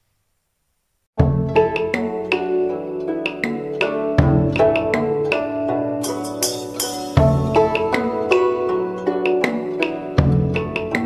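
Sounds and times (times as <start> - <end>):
plucked string melody: 1.2 - 11.0.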